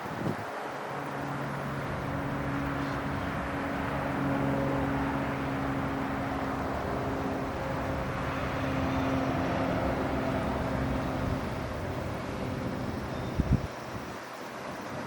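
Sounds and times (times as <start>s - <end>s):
motor running steadily: 1.0s - 15.0s.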